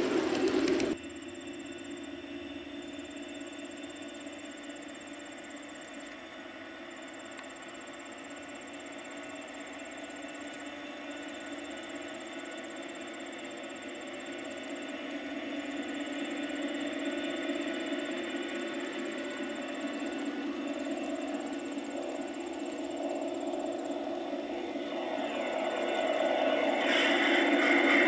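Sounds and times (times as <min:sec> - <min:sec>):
model train diesel engine sound: 0:00.0 - 0:28.0
model train running gear: 0:00.0 - 0:28.0
insect trilling: 0:01.0 - 0:26.8.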